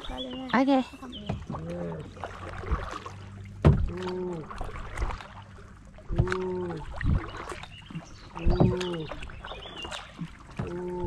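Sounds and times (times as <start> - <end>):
paddle hitting water: 1.1 - 11.0.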